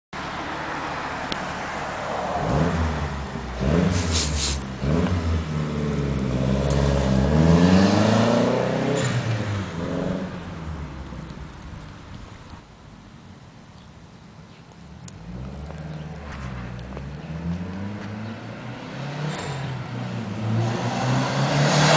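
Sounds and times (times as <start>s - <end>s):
car engine revving: 0.4s - 11.3s, 15.1s - 21.9s.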